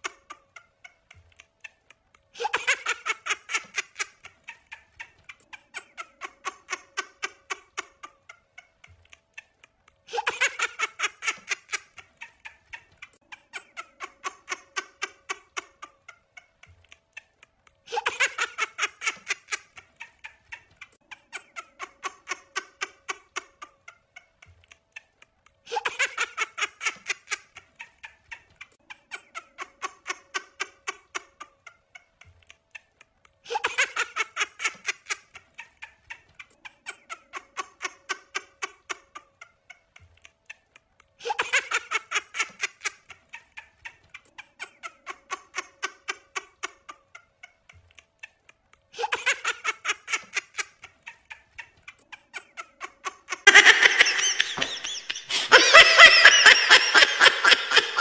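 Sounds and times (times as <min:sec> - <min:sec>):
looped laughter: 0:00.0 - 0:58.0.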